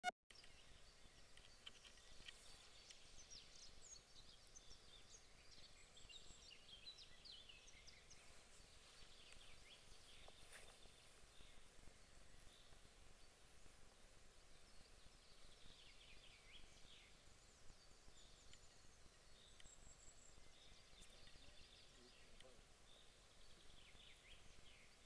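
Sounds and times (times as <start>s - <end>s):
songbirds chirping and trilling: 0.3s - 25.0s.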